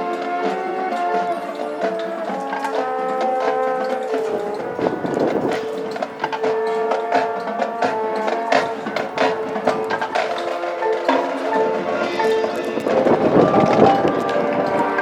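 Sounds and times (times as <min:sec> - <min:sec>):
mallet percussion notes: 0:00.0 - 0:15.0
percussion: 0:00.0 - 0:15.0
wind instrument chords: 0:00.0 - 0:15.0.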